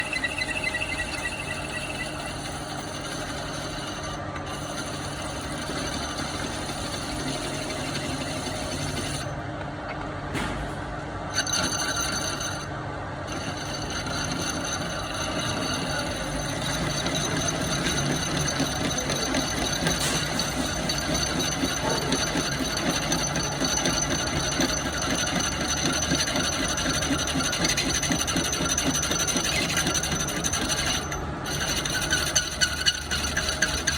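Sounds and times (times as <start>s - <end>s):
cutting tool scraping metal: 0.0s - 9.4s, 11.3s - 33.9s
metal lathe running: 0.0s - 33.9s.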